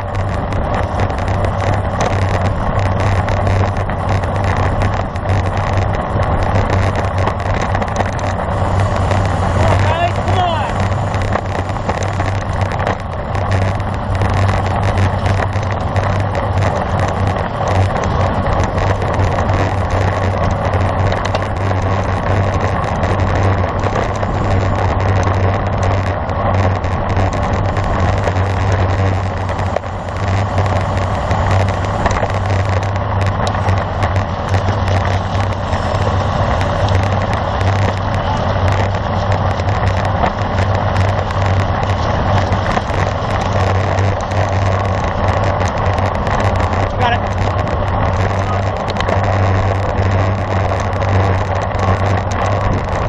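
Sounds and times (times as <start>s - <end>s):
tyres hissing on road: 0.0s - 53.0s
wind on microphone: 0.0s - 53.0s.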